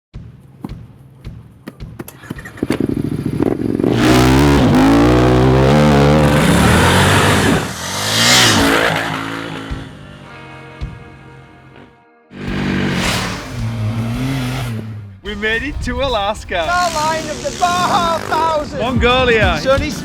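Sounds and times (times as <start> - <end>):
motorcycle engine revving: 0.5 - 15.6, 16.5 - 19.0.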